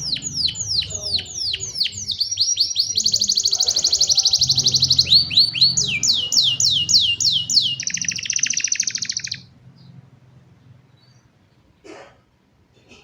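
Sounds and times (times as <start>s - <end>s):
canary singing: 0.0s - 11.6s.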